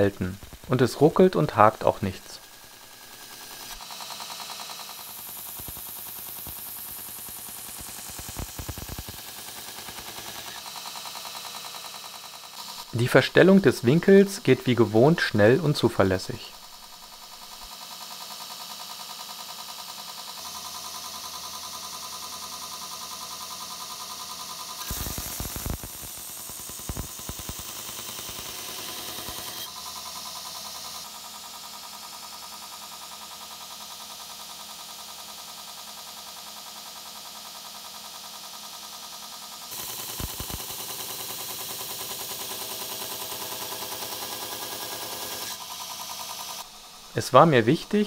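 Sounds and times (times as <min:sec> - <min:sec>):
belt grinder running: 0:00.0 - 0:48.0.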